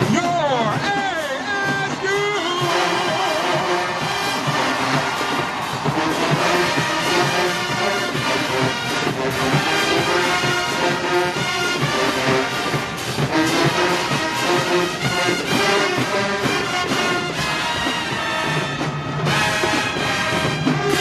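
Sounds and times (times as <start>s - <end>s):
marching band brass: 0.0s - 21.0s
steady drum beat: 0.0s - 21.0s.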